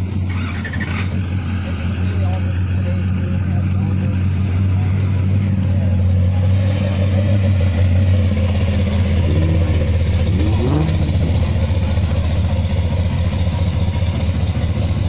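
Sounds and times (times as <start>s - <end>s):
car engine idling: 0.0s - 15.0s
faint voices: 0.2s - 15.0s.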